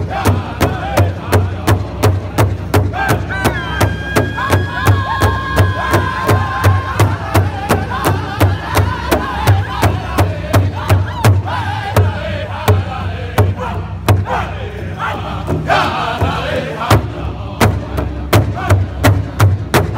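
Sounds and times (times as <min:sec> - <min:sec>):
group singing in chorus: 0:00.0 - 0:19.9
large drum beats: 0:00.0 - 0:19.9.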